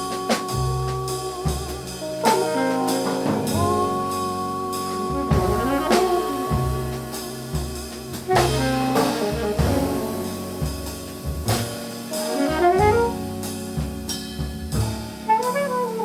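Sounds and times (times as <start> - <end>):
alto saxophone: 0.0 - 14.1, 15.1 - 16.0
double bass: 0.0 - 16.0
drum kit and cymbals: 0.0 - 16.0.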